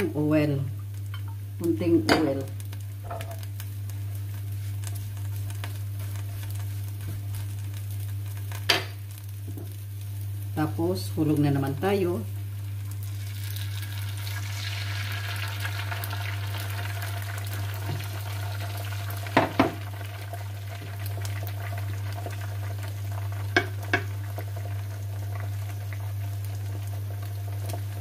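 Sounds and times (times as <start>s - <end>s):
egg sizzling on griddle pan: 2.3s - 10.8s, 11.7s - 28.0s.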